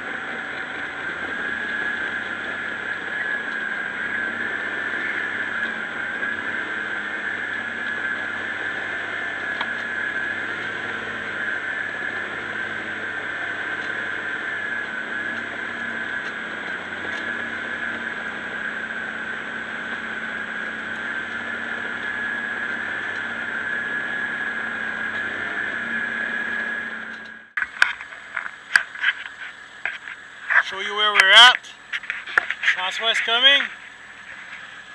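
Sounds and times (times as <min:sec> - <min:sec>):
high whine: 0:00.0 - 0:34.9
tractor diesel engine running: 0:00.0 - 0:34.9.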